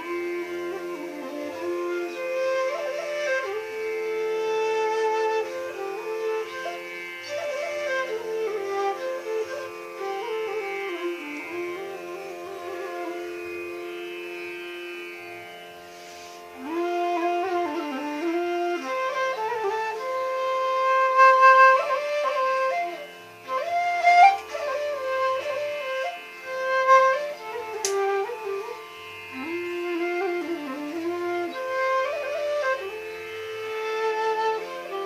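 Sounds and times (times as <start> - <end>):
sliding melody over sustained tones: 0.0 - 35.0.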